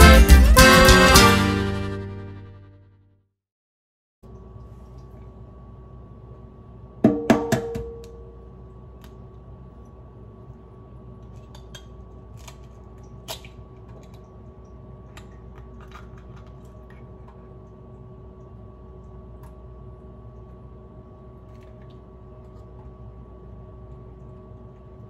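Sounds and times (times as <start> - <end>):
low background hum: 4.2 - 25.0.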